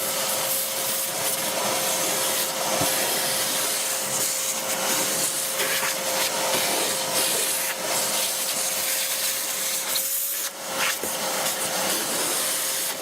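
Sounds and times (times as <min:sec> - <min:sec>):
vacuum nozzle rubbing surface: 0:00.0 - 0:13.0
wet dry vacuum running: 0:00.0 - 0:13.0.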